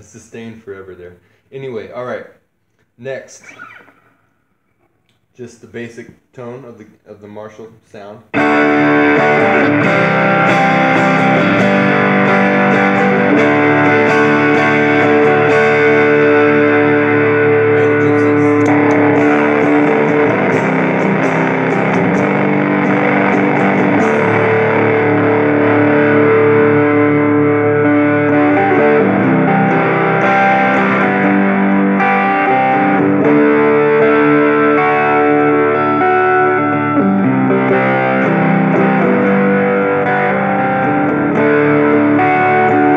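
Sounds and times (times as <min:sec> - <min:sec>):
overdriven electric guitar chords: 0:03.4 - 0:04.9, 0:08.4 - 0:42.9.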